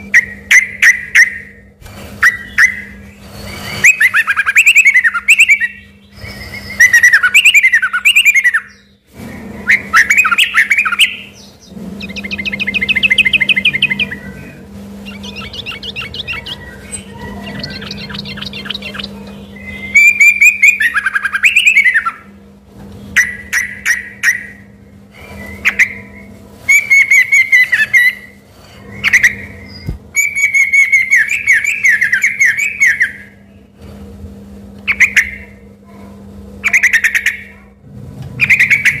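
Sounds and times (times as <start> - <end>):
bird singing whistled notes: 0.0 - 9.0, 9.6 - 22.3, 23.2 - 33.4
bird chattering: 0.0 - 22.3, 23.1 - 33.7, 34.8 - 36.0, 36.6 - 37.8, 38.4 - 39.0.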